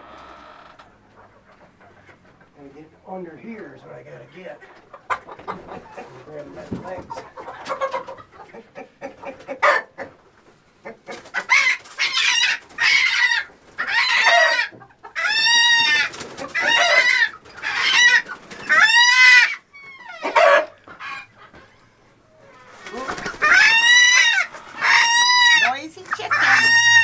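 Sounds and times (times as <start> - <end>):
chickens squawking: 0.0 - 27.0.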